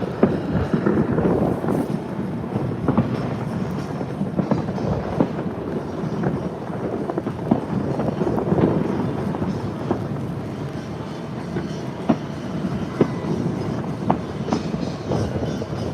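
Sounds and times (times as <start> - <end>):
distant fireworks popping: 0.0 - 15.9
wind buffeting microphone: 0.0 - 15.9.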